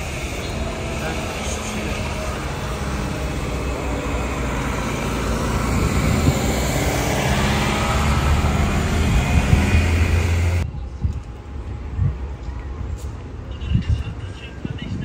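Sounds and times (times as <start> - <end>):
large vehicle engine running: 0.0 - 15.0
traffic noise: 0.0 - 15.0.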